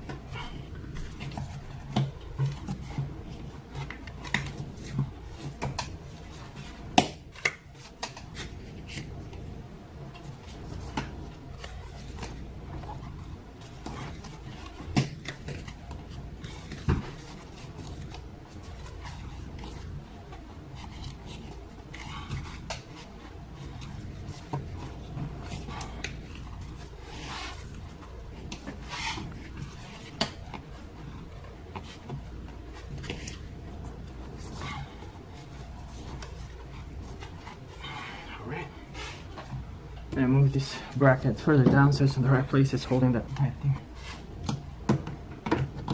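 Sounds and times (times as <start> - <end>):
plastic rubbing and scraping: 0.0 - 45.9.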